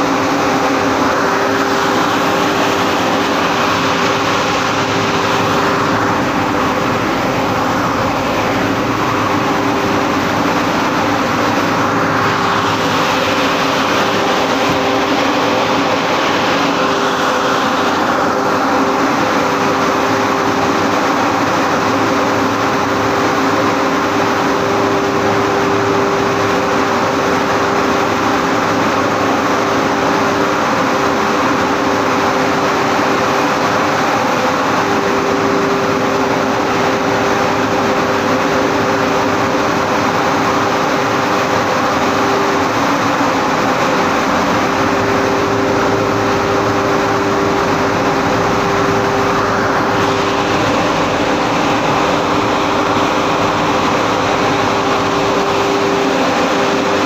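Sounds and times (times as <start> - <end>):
machinery drone with whine: 0.0 - 57.0.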